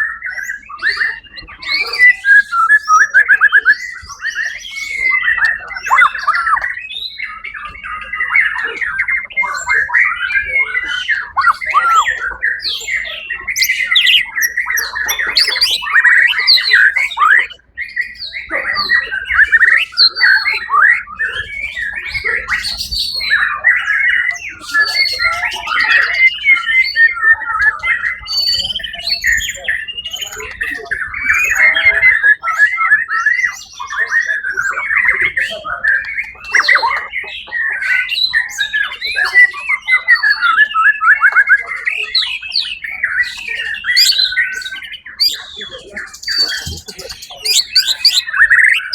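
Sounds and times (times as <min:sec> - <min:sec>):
bird singing whistles and chatter: 0:00.0 - 0:48.9.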